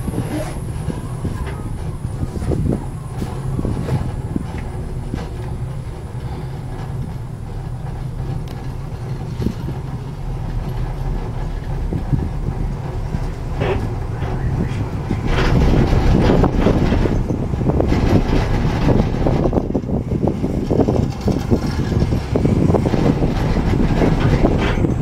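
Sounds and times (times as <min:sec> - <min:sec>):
gondola cabin rumble: 0:00.0 - 0:25.0.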